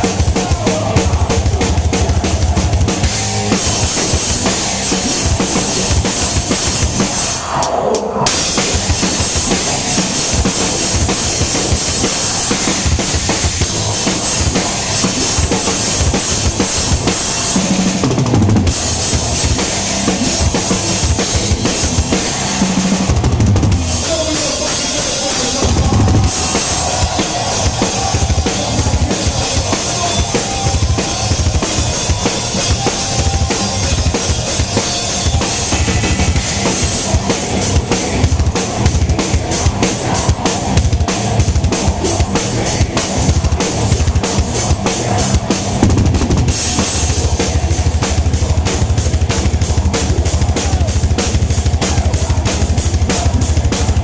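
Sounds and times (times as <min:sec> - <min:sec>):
band playing loud: 0:00.0 - 0:54.0.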